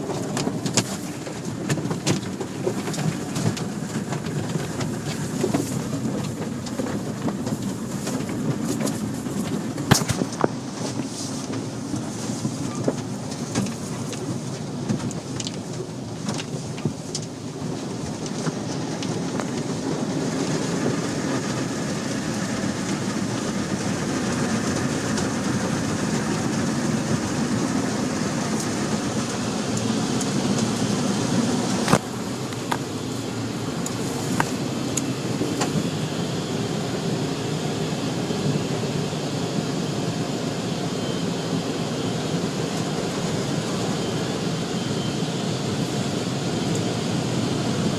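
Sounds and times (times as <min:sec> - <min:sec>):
car wash spraying water: 0:00.0 - 0:47.9.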